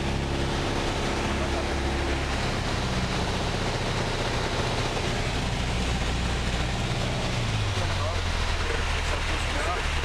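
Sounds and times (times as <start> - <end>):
aircraft engine drone: 0.0 - 10.0.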